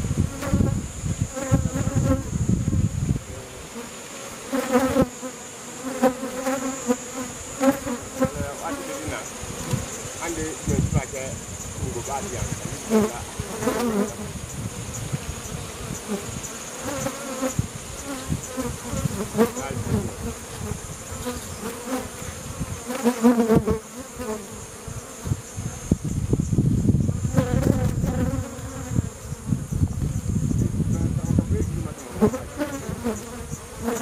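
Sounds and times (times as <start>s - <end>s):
bee buzzing close by: 0.0s - 34.0s
honeybees buzzing: 0.0s - 34.0s.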